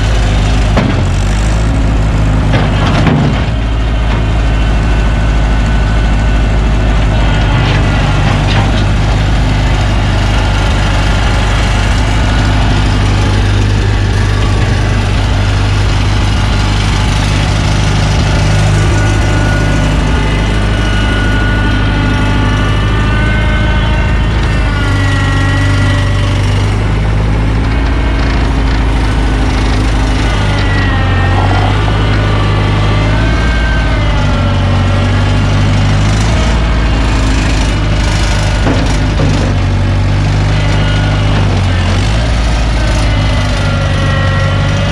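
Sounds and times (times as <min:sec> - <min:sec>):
skid steer engine running: 0:00.0 - 0:44.9.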